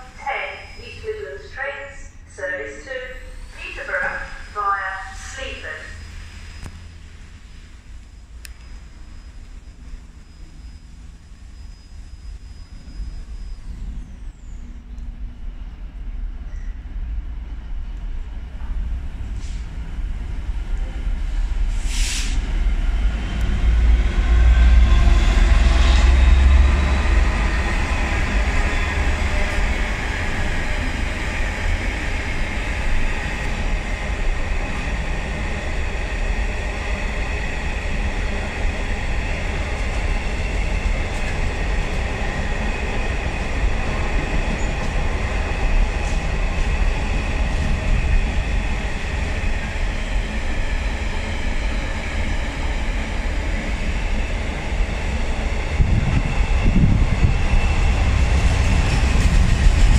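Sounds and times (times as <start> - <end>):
diesel locomotive engine: 0.0 - 59.9.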